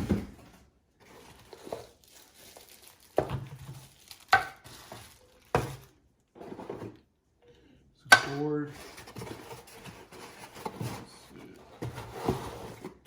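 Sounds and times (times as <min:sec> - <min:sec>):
paper and cardboard rustling: 0:00.0 - 0:07.0, 0:08.3 - 0:13.0.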